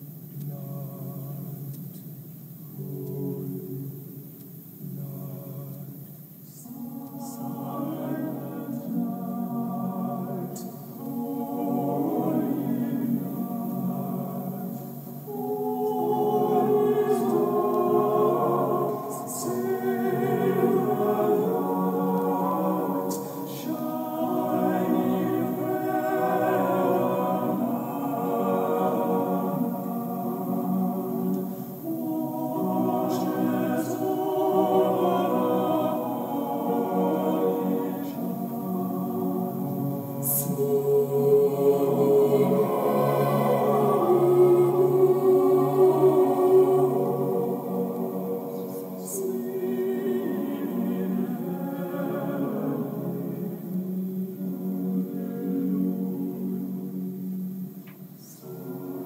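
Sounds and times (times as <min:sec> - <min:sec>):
choir singing sustained chords: 0:00.0 - 0:59.0.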